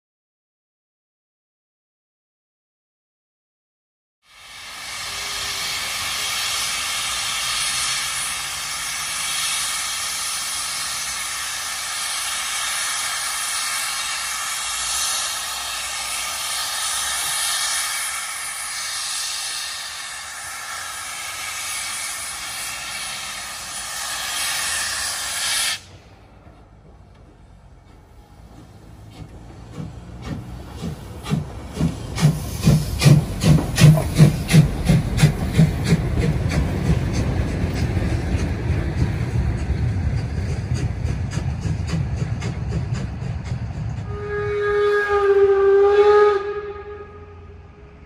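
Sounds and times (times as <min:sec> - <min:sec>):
locomotive venting steam: 0:04.2 - 0:48.0.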